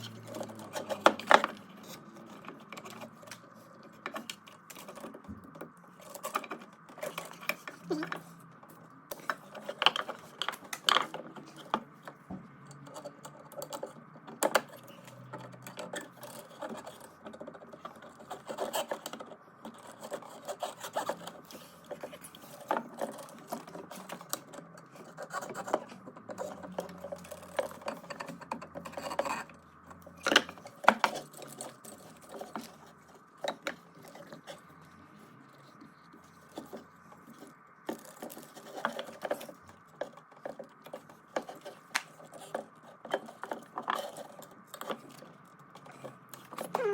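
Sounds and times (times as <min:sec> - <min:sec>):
parts rubbing and scraping: 0:00.0 - 0:46.9.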